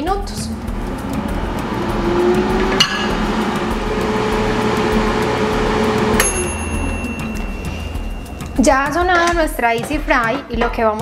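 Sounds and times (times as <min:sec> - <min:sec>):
air fryer fan hum: 0:00.0 - 0:09.6
high thin tone: 0:00.3 - 0:09.3.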